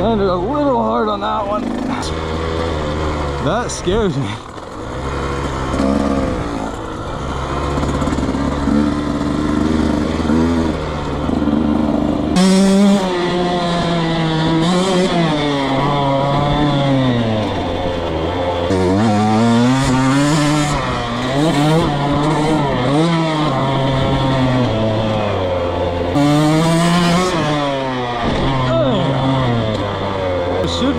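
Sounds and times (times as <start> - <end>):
dirt bike engine revving: 0.0 - 30.9.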